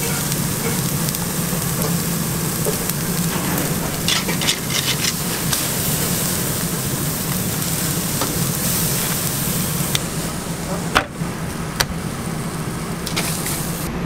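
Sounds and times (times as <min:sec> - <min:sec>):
fat crackling in fire: 0:00.0 - 0:13.9
steaks sizzling on a grill: 0:00.0 - 0:13.9.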